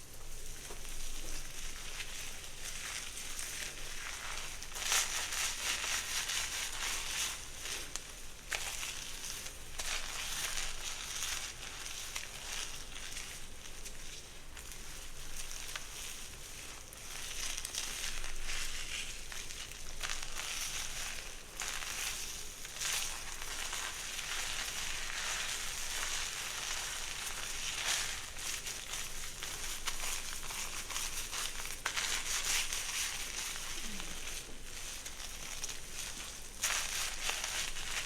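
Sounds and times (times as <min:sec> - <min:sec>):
crackling rustle of hair: 0:00.0 - 0:38.0.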